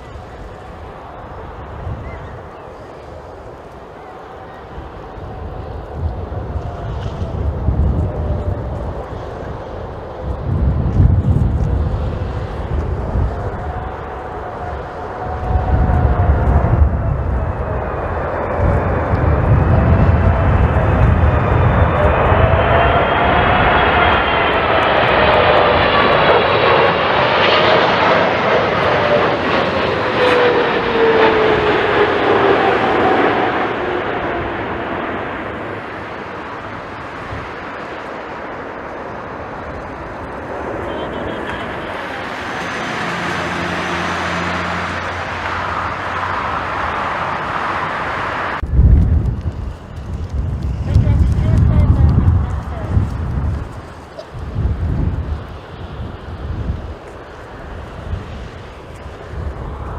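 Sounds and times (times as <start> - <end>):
jet engines whining: 0.0 - 59.9
wind rumble on microphone: 0.0 - 59.9.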